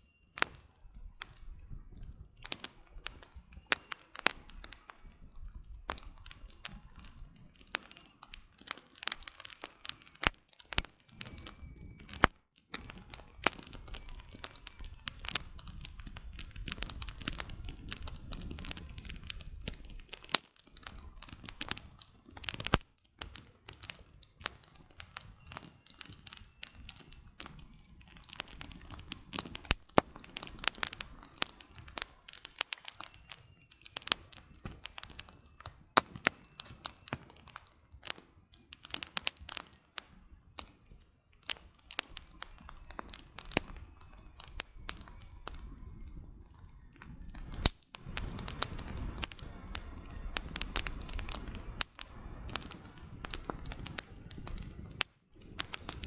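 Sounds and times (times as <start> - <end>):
campfire crackling and popping: 0.0 - 56.0
low rumble of fire: 0.0 - 56.0.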